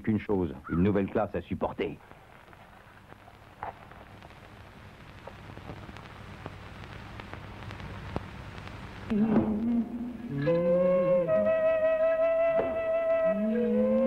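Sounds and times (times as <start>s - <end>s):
film soundtrack hiss: 0.0s - 14.0s
crackles: 0.6s - 14.0s
low hum: 2.2s - 14.0s.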